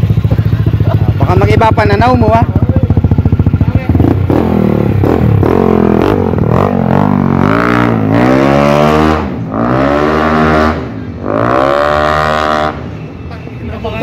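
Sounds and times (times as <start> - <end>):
scooter engine revving: 0.0 - 12.9.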